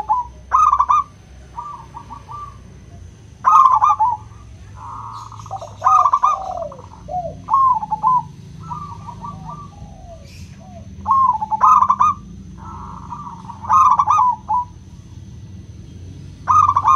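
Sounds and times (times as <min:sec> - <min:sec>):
dove cooing bubbling notes: 0:00.0 - 0:14.9, 0:16.5 - 0:16.9
second dove lower coos: 0:00.0 - 0:15.2, 0:16.4 - 0:16.9.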